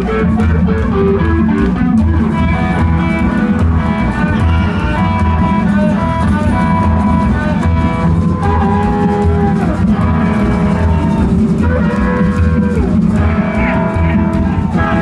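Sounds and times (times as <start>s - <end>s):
electric guitar melody: 0.0s - 15.0s
pulsing bass line: 0.0s - 15.0s.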